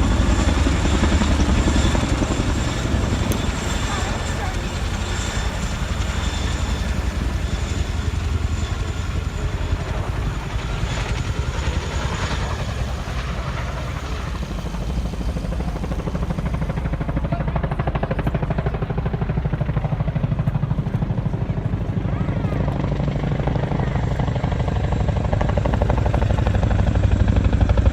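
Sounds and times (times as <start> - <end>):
helicopter rotor and engine: 0.0 - 27.9.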